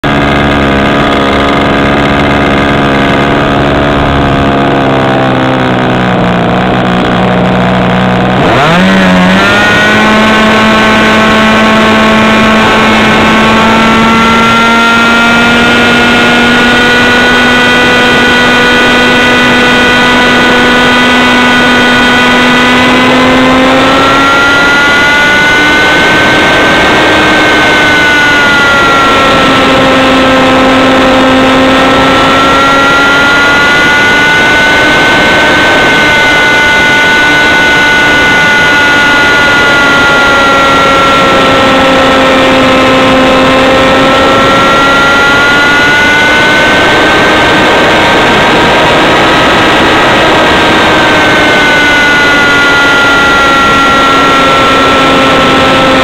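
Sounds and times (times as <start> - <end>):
model airplane engine: 0.0 - 56.0.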